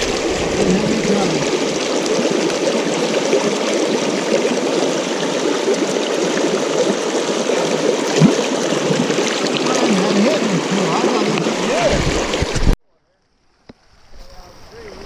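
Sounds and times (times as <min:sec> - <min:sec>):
stream water rushing: 0:00.0 - 0:12.8.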